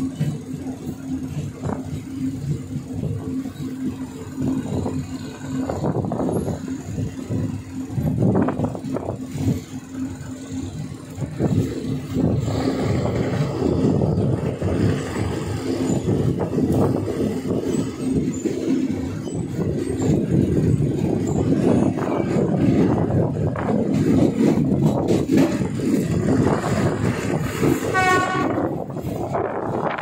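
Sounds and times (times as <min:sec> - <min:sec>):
diesel train engine hum: 0:00.0 - 0:30.0
train rumbling and knocking on rails: 0:00.0 - 0:30.0.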